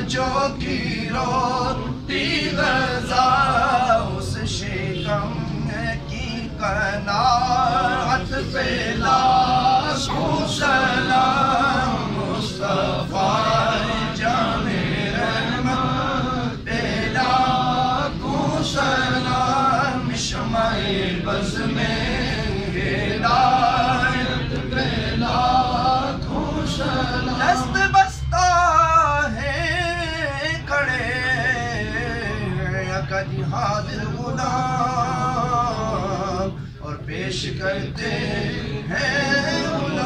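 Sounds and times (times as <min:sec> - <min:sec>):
man chanting: 0:00.0 - 0:40.0.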